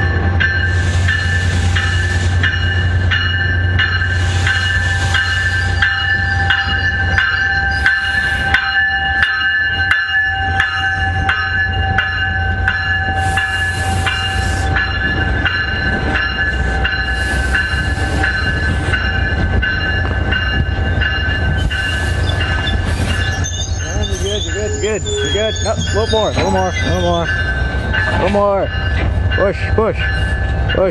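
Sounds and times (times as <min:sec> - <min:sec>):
ringing bell tones: 0:00.0 - 0:30.9
train rumble: 0:00.0 - 0:30.9.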